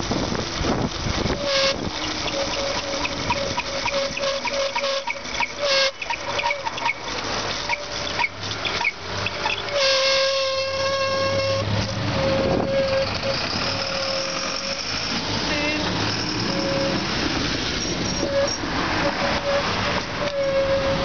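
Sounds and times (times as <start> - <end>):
passing traffic: 0.0 - 21.0
wind noise on microphone: 0.0 - 21.0
bicycle brake squealing: 1.2 - 21.0.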